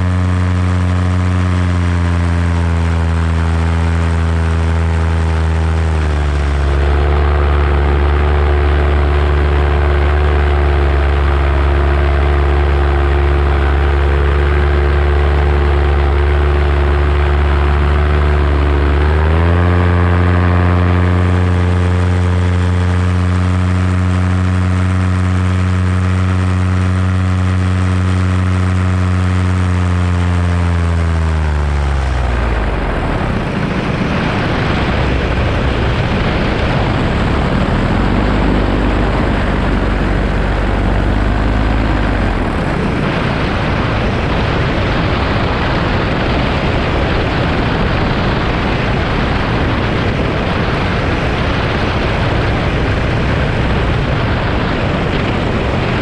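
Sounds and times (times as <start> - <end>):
paramotor engine and propeller: 0.0 - 56.0
wind rushing over microphone: 0.0 - 56.0.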